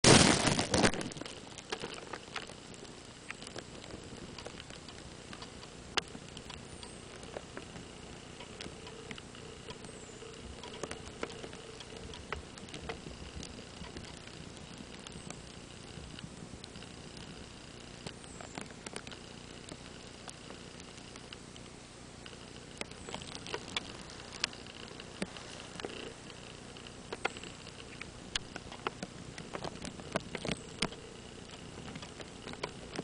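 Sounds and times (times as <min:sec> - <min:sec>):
light clicks and crackles: 0:00.1 - 0:33.0.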